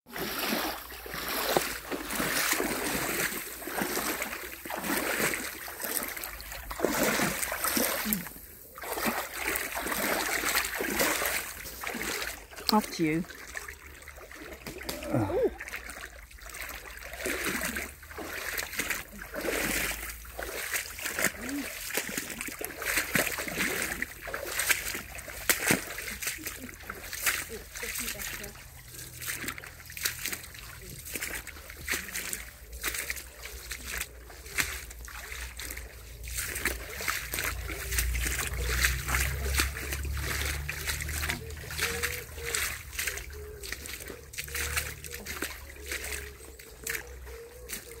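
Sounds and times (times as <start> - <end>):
splashing footsteps in water: 0.1 - 48.0
stream water splashing: 0.1 - 48.0.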